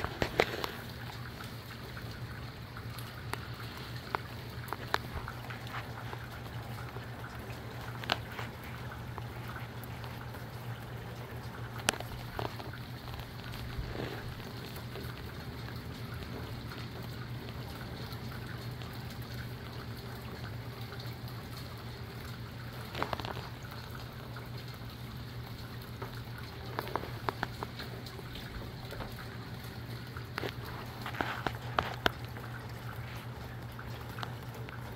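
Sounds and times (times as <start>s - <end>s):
constant low hum: 0.0s - 34.9s
steady rain falling: 0.0s - 34.9s.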